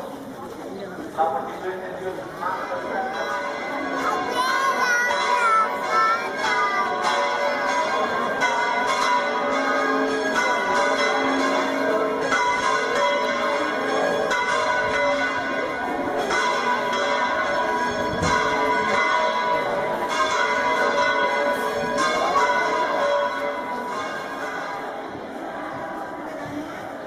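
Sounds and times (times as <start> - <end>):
church bells ringing: 1.4 - 26.1.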